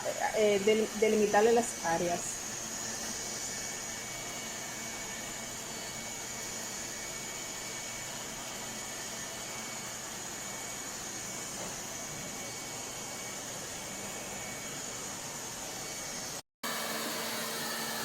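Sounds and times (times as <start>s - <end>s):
robot vacuum running: 0.0s - 18.0s.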